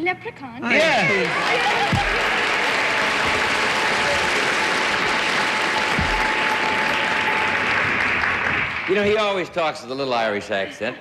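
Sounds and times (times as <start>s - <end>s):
audience applauding: 0.8s - 10.2s.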